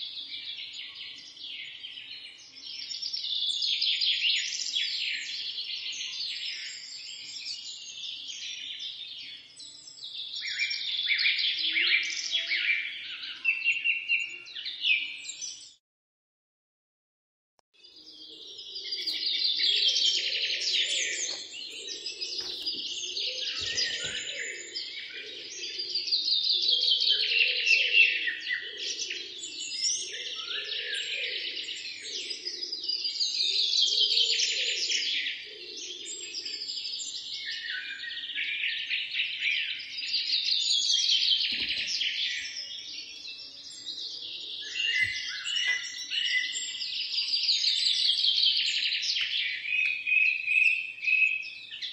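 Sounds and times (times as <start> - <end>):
small birds chirping: 0.0 - 15.8, 17.8 - 51.9.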